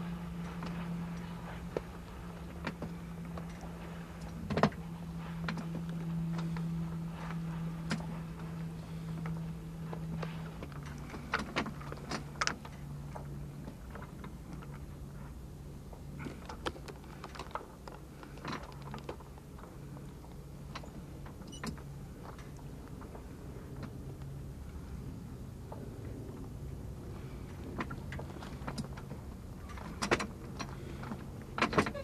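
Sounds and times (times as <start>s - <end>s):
steady low hum: 0.0s - 32.0s
sharp clicks and rattles of gear: 0.3s - 24.9s, 25.6s - 32.0s.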